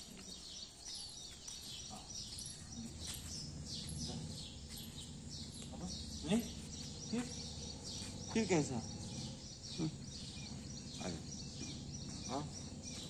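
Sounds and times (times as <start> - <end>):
birds chirping: 0.0 - 13.0
low background hum: 1.5 - 13.0.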